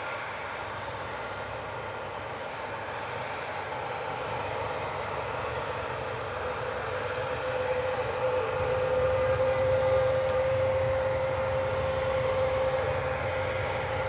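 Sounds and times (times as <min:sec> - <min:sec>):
jet engine whine: 0:00.0 - 0:14.0.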